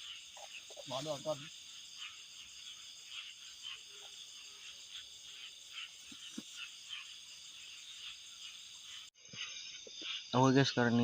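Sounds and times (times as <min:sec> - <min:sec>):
frogs calling: 0:00.0 - 0:11.0
insects droning: 0:00.0 - 0:11.0.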